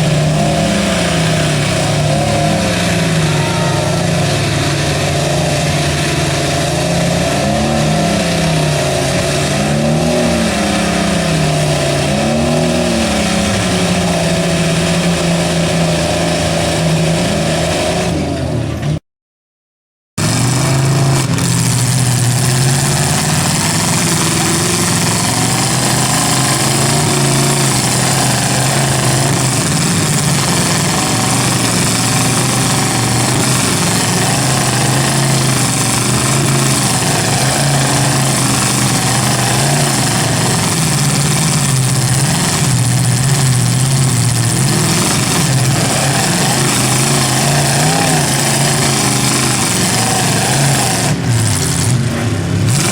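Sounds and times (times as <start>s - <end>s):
truck engines revving hard: 0.0s - 19.0s, 20.2s - 52.9s.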